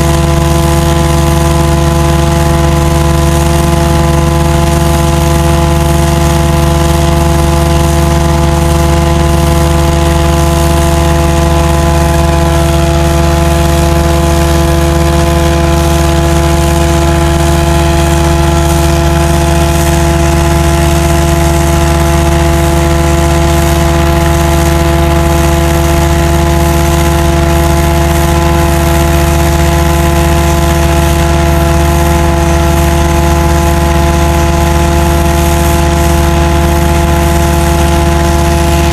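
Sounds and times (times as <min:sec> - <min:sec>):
loud steady machine hum: 0:00.0 - 0:38.9.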